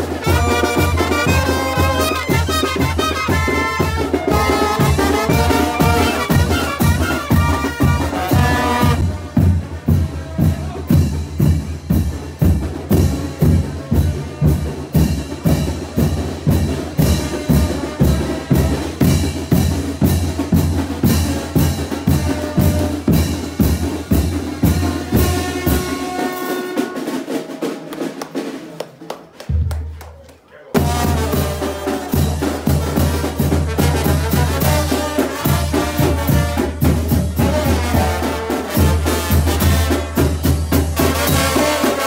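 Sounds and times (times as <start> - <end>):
bass drum beat: 0.0 - 25.9, 30.8 - 41.7
brass band playing: 0.0 - 28.7, 30.7 - 42.0.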